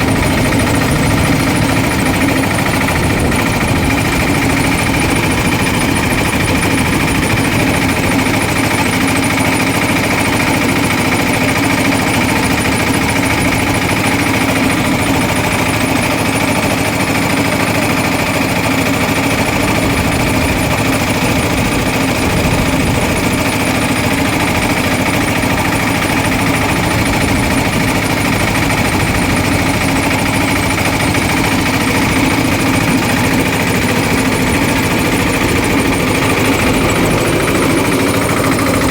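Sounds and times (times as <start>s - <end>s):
juice crusher mechanical hum: 0.0s - 38.9s.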